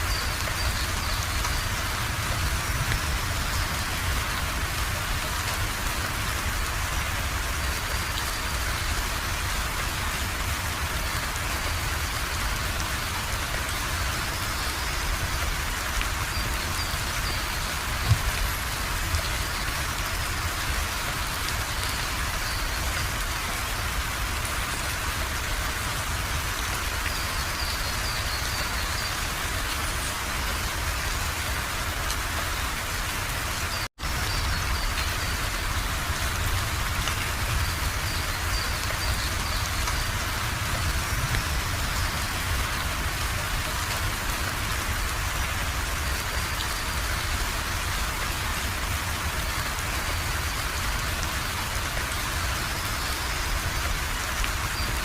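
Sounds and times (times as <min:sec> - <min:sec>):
rain pattering on surfaces: 0:00.0 - 0:55.0.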